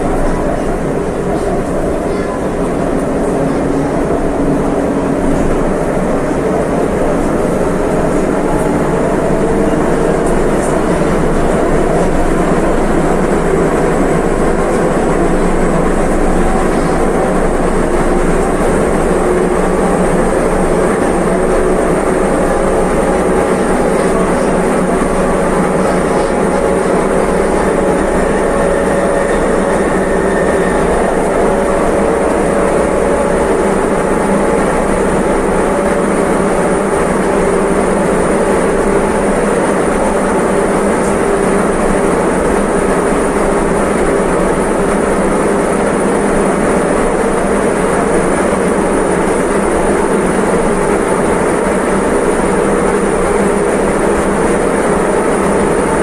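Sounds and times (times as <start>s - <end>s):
metro train rumbling: 0.0s - 56.0s
steady tones: 0.0s - 56.0s.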